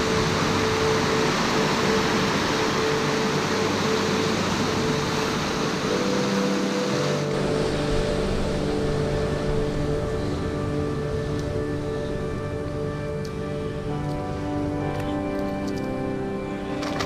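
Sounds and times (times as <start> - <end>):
music of long held notes: 0.0 - 17.0
surf washing over rocks: 0.0 - 17.0.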